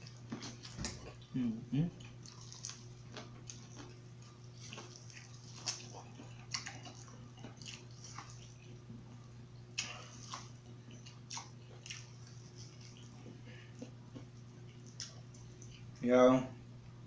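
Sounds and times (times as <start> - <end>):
steady low hum: 0.0 - 17.0
chewing and lip-smacking: 1.9 - 16.0.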